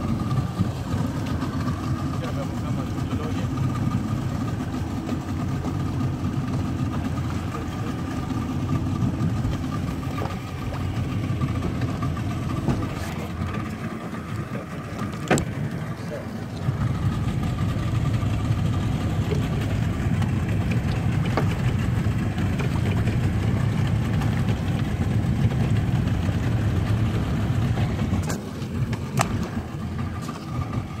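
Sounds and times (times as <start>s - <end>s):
boat engine droning: 0.0s - 31.0s
water rushing along hull: 0.0s - 31.0s.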